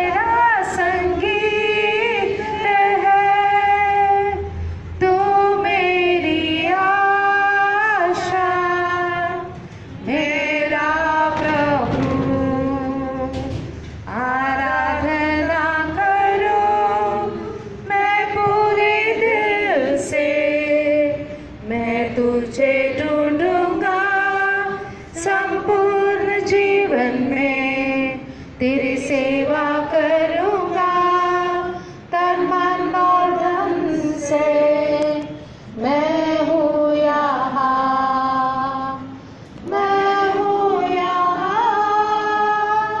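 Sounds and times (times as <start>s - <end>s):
group singing a hymn: 0.0s - 43.0s.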